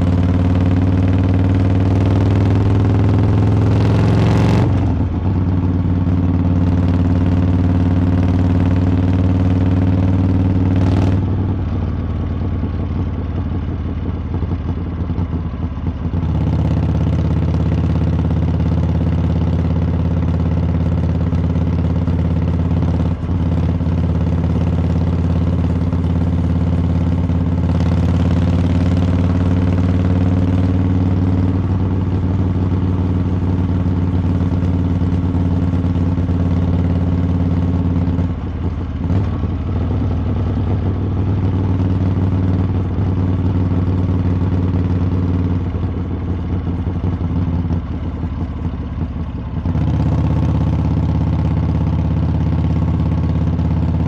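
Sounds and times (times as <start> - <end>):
motorcycle exhaust cruising: 0.0 - 54.0.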